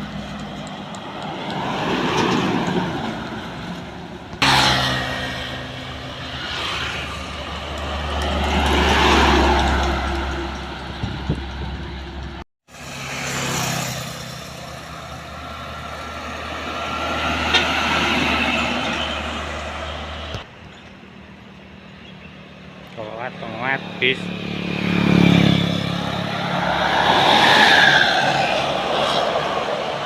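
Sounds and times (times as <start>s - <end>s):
trucks driving past: 0.0s - 30.0s.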